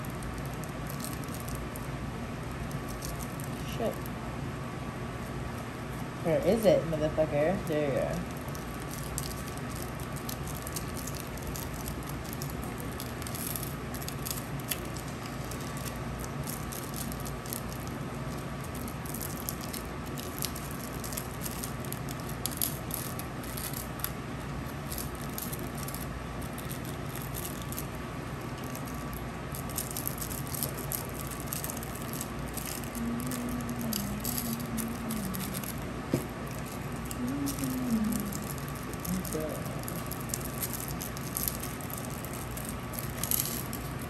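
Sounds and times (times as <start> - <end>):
small objects clicking and rattling: 0.0 - 1.9, 2.5 - 4.1, 8.2 - 44.0
steady hum: 0.0 - 44.0.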